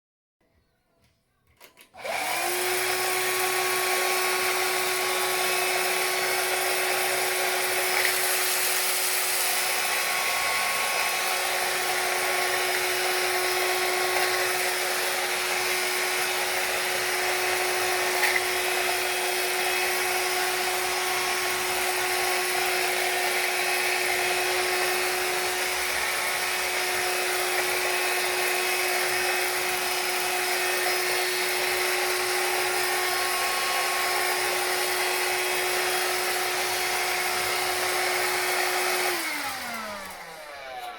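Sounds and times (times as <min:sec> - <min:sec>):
stick vacuum cleaner running: 0:01.8 - 0:40.9.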